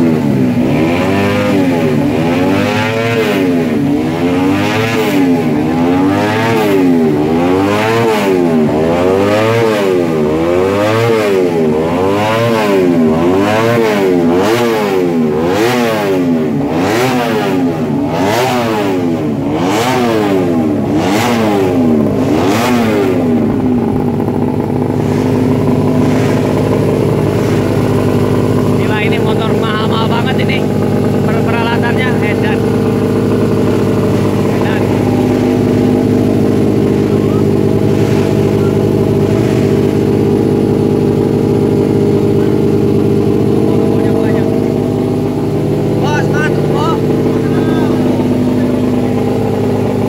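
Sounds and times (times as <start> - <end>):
motorcycle engine revving and idling: 0.0 - 50.0.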